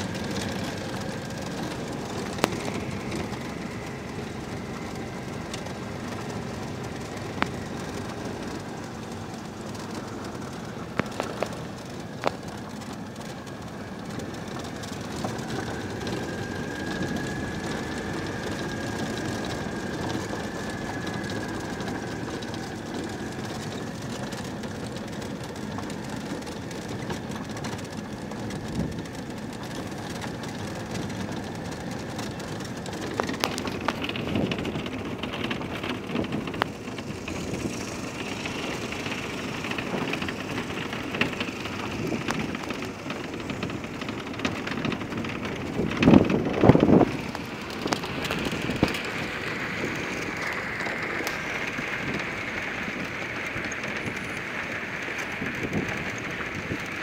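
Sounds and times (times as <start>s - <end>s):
car engine rumbling: 0.0s - 57.0s
tyres crunching over gravel: 0.0s - 57.0s.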